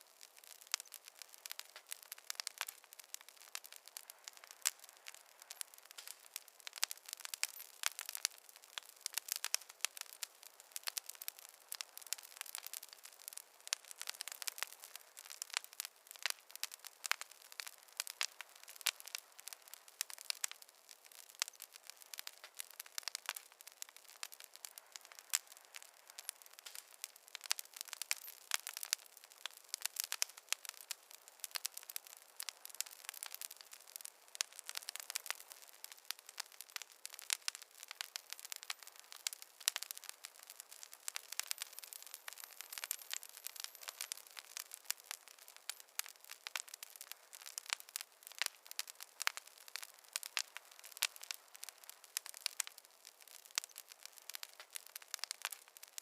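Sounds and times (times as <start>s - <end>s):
faint hiss: 0.0s - 56.0s
fire crackling: 0.0s - 56.0s.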